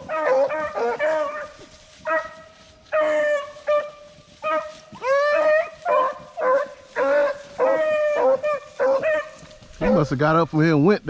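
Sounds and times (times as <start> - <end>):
dogs barking and baying: 0.0 - 10.2.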